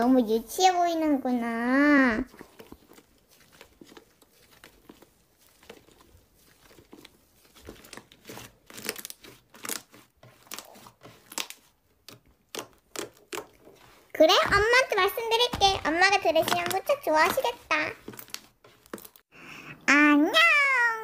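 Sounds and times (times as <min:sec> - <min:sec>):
hands squishing slime crackling: 0:01.3 - 0:19.3.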